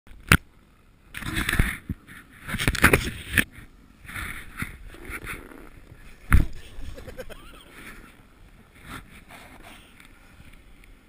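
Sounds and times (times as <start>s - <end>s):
snowboard scraping over snow: 1.2s - 10.6s.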